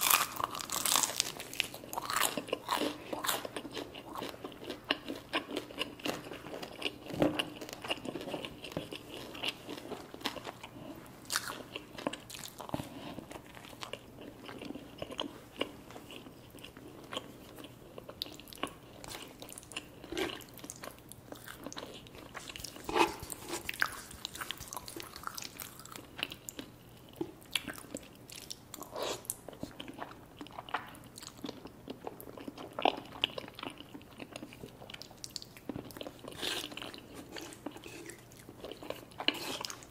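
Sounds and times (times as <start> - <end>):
chewing and crunchy mouth clicks: 0.0 - 39.9.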